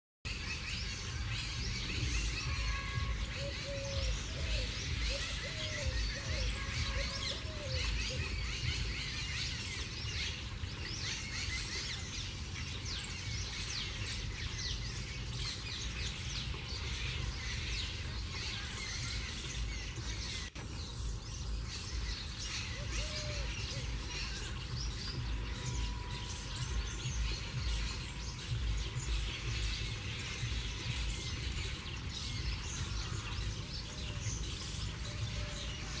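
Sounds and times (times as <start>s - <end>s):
birds chirping: 0.3s - 36.0s.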